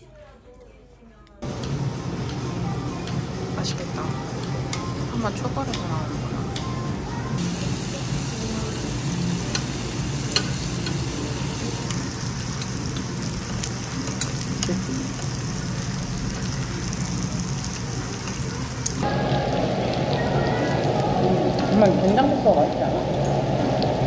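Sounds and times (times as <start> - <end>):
meat sizzling on a griddle: 1.4 - 24.0.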